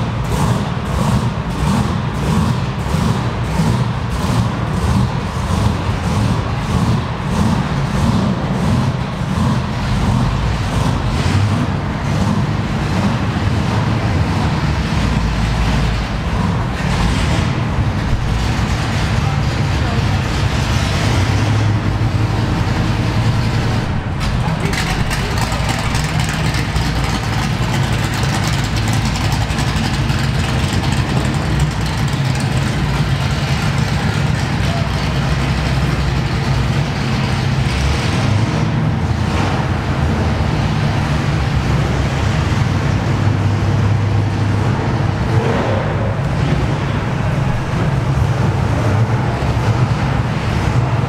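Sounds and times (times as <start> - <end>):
supercharged engine idling loudly: 0.0 - 51.0.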